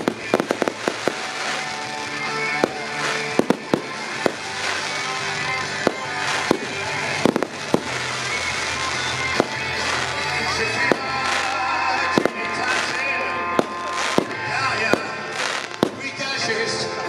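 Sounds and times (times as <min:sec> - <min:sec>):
fireworks bursting with sharp bangs: 0:00.0 - 0:16.6
music over loudspeakers: 0:00.0 - 0:17.0.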